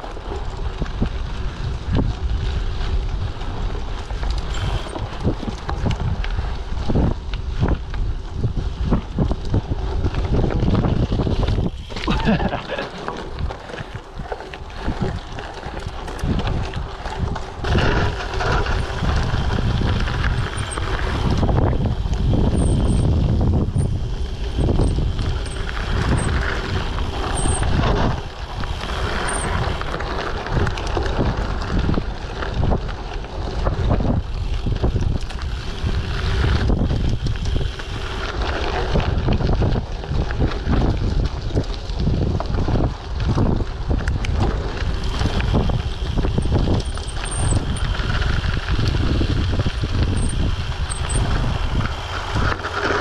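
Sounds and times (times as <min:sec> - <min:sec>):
bike rolling on dirt trail: 0:00.0 - 0:53.0
wind buffeting microphone: 0:00.0 - 0:53.0.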